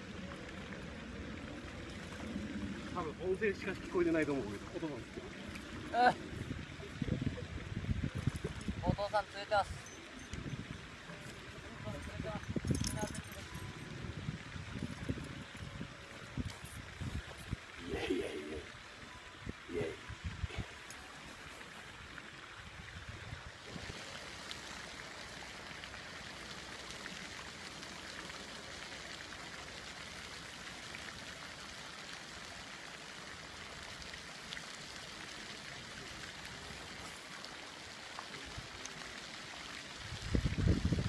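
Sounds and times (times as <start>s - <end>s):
fountain spraying water: 0.0s - 41.0s.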